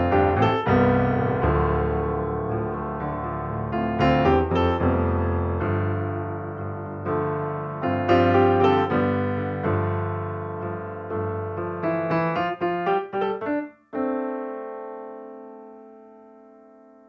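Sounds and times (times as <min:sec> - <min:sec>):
slow calm piano music: 0:00.0 - 0:17.0.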